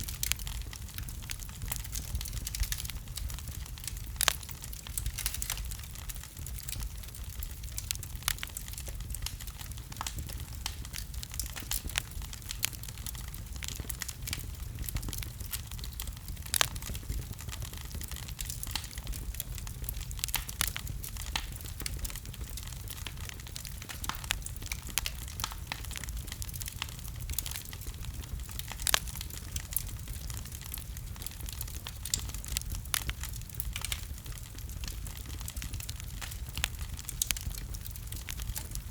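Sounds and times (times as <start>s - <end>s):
fire pops: 0.0s - 38.9s
low fire rumble: 0.0s - 38.9s
wood fire crackling: 0.0s - 38.9s.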